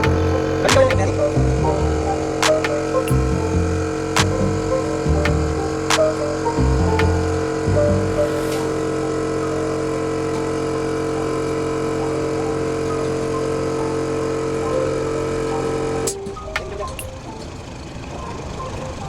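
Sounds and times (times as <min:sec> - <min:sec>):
motor humming: 0:00.0 - 0:18.8.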